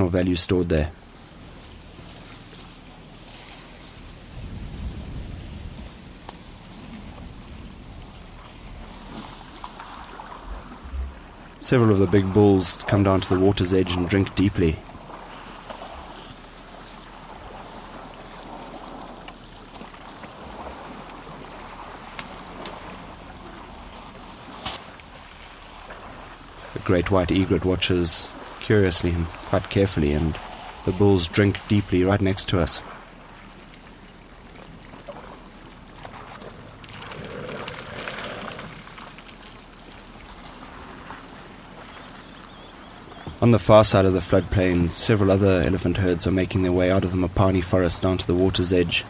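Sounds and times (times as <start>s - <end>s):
water: 0.0s - 49.0s
wind: 0.0s - 49.0s.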